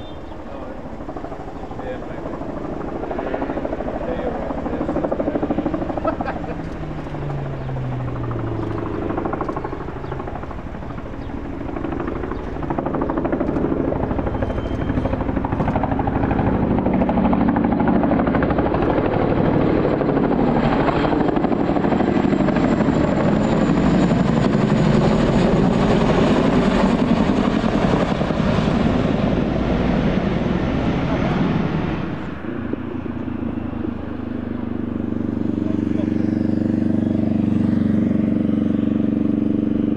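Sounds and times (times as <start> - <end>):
helicopter rotor beat: 0.0 - 39.9.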